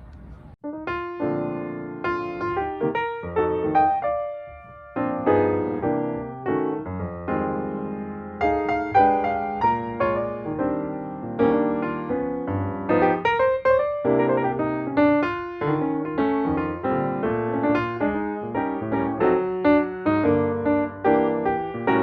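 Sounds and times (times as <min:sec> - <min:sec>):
electric piano chords: 0:00.0 - 0:22.0.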